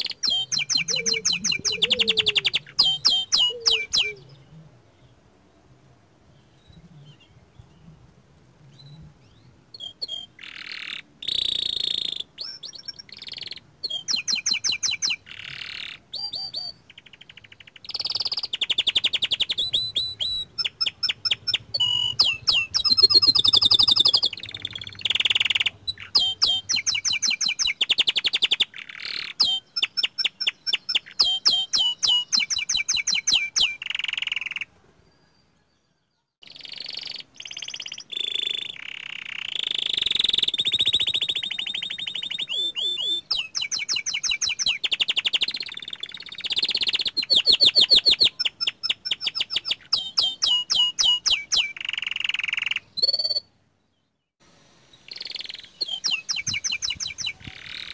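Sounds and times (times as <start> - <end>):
canary singing trills: 0.0 - 5.2, 8.7 - 54.3, 54.9 - 57.9.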